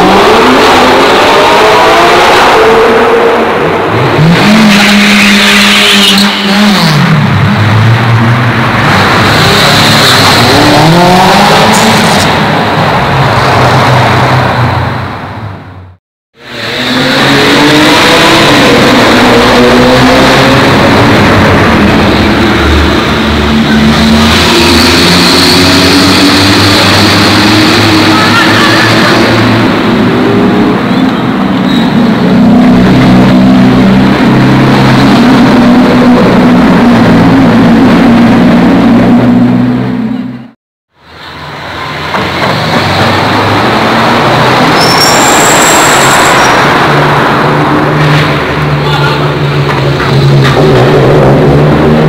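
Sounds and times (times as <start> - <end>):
car engines revving: 0.0 - 52.0.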